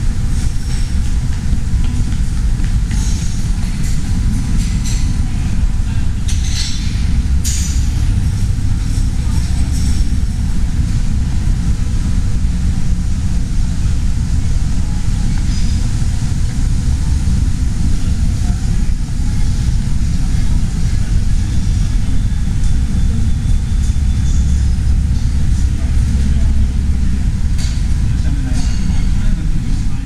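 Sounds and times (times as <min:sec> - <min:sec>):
low rumble of airport hall: 0:00.0 - 0:30.0.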